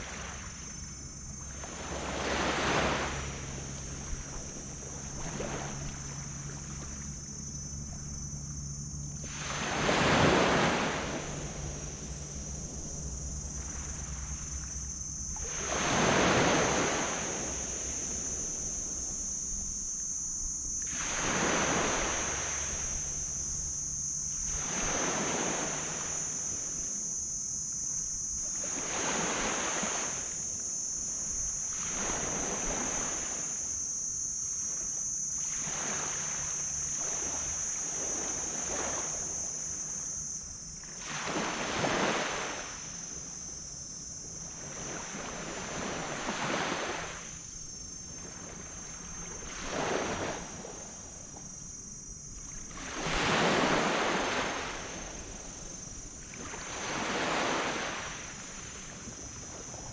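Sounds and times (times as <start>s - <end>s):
small waves breaking on beach: 0.0s - 8.4s, 9.1s - 27.2s, 28.2s - 33.8s, 34.5s - 43.4s, 44.2s - 51.6s, 52.2s - 59.9s
steady high-pitched hum: 0.0s - 59.9s.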